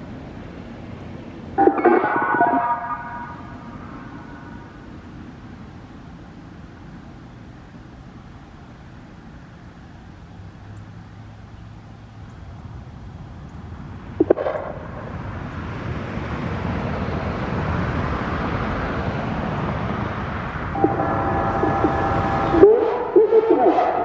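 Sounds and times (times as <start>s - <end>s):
road vehicle passing: 0.0s - 24.0s.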